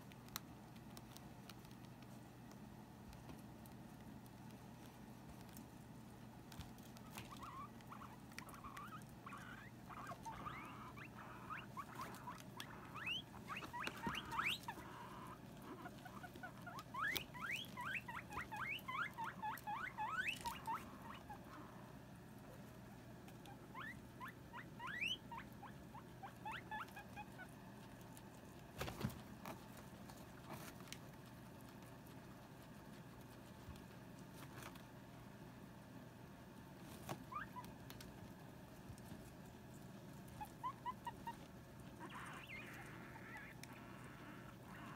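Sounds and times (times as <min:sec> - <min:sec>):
guinea pigs squeaking: 0:00.0 - 0:35.4, 0:36.6 - 0:44.9.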